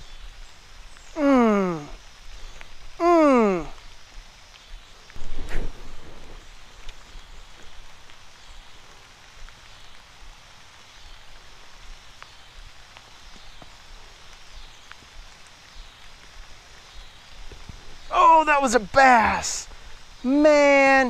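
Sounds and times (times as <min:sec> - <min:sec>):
rain falling on a creek: 0:00.0 - 0:21.0.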